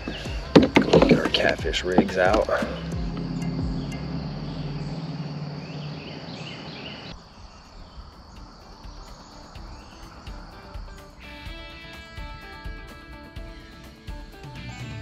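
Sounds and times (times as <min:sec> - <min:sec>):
insects trilling: 0:00.0 - 0:14.9.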